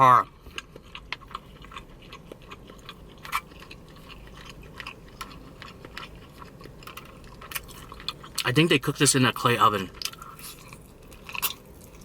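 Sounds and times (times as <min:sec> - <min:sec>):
person chewing food: 0:00.2 - 0:08.5, 0:09.8 - 0:12.0.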